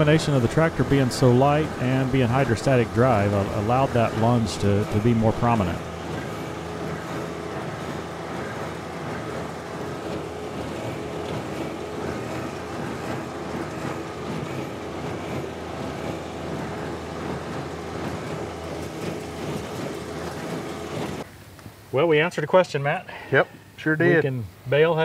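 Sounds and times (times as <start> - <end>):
hay baler packing hay: 0.0 - 21.3
tractor diesel engine running: 0.0 - 21.3.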